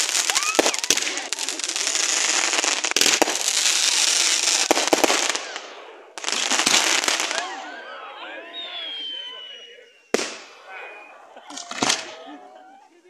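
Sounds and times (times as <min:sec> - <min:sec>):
fireworks sharp bangs: 0:00.0 - 0:12.4
fireworks popping: 0:00.0 - 0:12.5.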